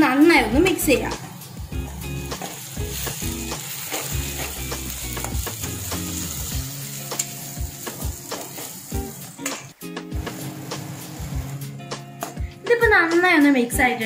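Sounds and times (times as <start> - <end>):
background music: 0.0 - 14.0
hot oil sizzling: 0.1 - 12.2.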